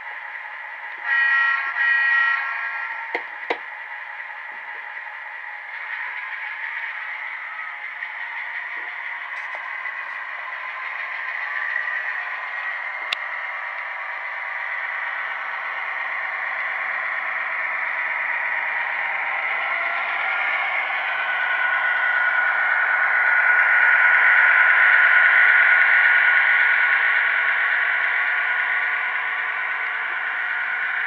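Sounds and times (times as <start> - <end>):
diesel engine sound from small speaker: 0.0 - 31.0.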